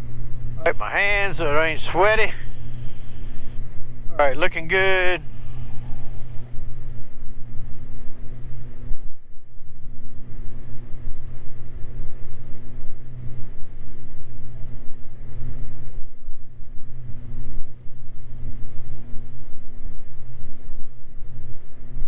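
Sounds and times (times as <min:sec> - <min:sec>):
twin propeller engines droning: 0:00.0 - 0:22.0.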